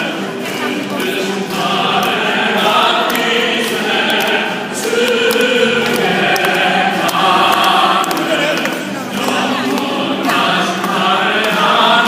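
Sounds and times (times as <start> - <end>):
group singing in unison: 0.0 - 12.0.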